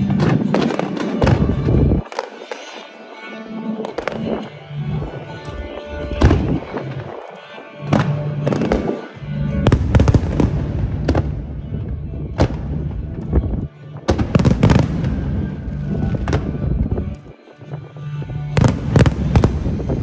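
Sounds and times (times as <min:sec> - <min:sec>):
fireworks booming and crackling: 0:00.0 - 0:02.6, 0:03.9 - 0:07.2, 0:07.9 - 0:17.3, 0:18.5 - 0:20.0.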